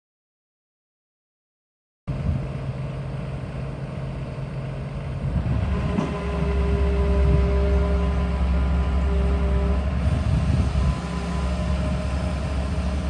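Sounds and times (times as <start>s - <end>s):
excavator diesel engine running: 2.1s - 13.0s
steady whine: 2.1s - 13.0s.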